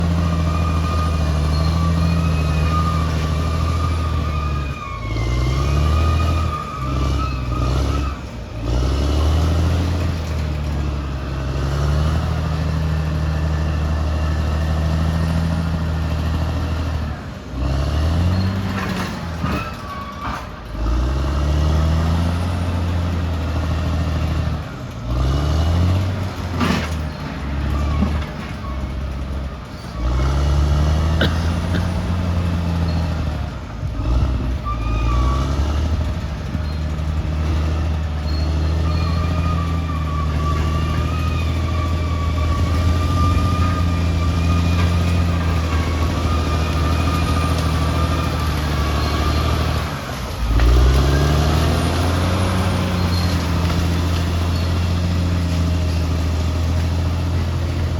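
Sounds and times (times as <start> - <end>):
bulldozer diesel engine: 0.0 - 57.9.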